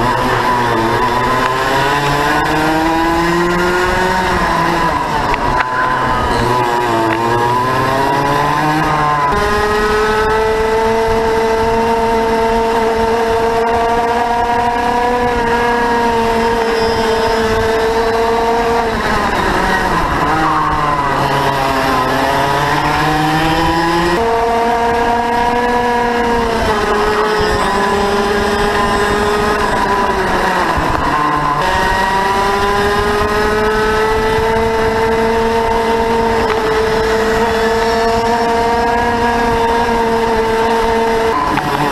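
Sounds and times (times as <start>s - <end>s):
racing kart engine: 0.0s - 41.9s.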